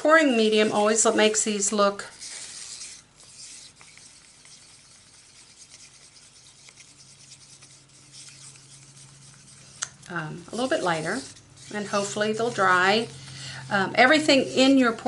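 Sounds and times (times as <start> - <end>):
low steady hum: 0.0 - 15.0
stir stick scraping in cup: 0.3 - 13.4.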